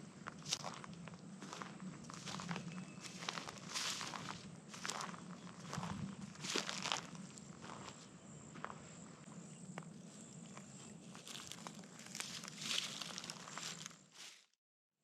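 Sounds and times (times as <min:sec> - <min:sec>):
footsteps crunching on trail: 0:00.0 - 0:14.5.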